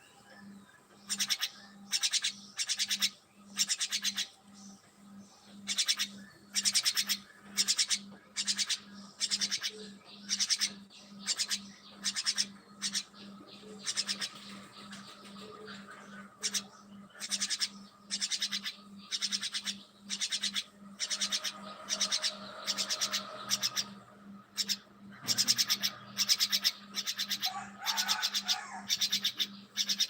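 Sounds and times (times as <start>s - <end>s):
birds calling in scratchy trills: 0.0s - 30.0s.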